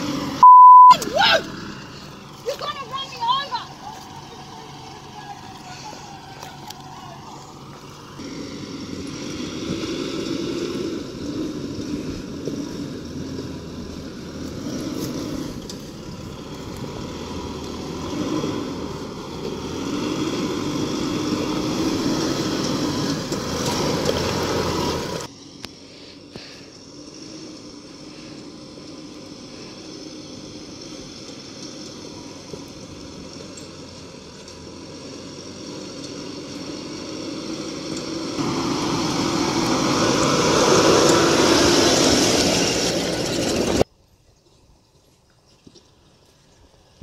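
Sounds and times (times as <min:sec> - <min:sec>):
engine working hard under load: 0:00.0 - 0:43.9.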